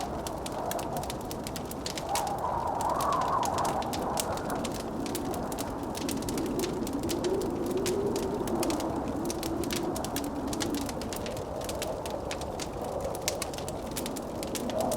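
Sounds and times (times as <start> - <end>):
howling blizzard wind: 0.0 - 14.9
wood fire crackling and popping: 0.0 - 14.9.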